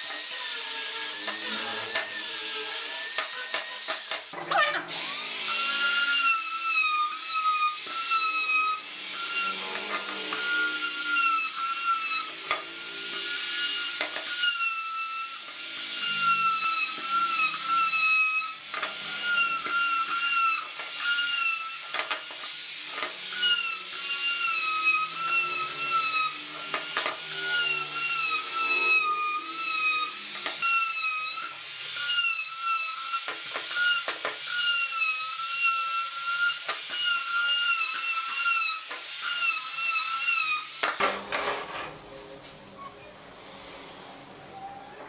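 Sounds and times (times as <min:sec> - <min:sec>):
router bit rasping into wood: 0:00.0 - 0:41.5
router whining: 0:00.0 - 0:45.0.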